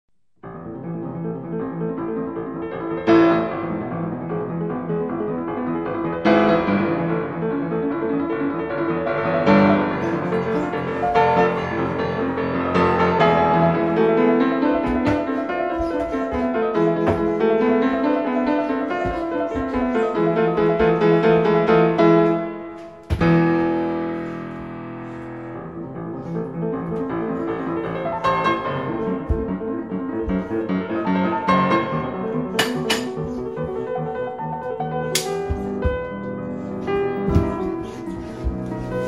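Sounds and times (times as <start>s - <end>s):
piano music: 0.4s - 39.0s.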